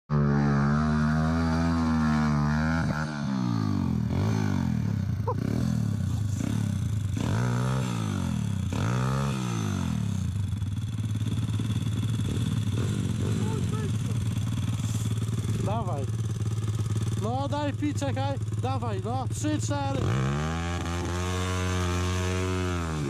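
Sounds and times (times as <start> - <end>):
motorbike engine revving: 0.1 - 23.0.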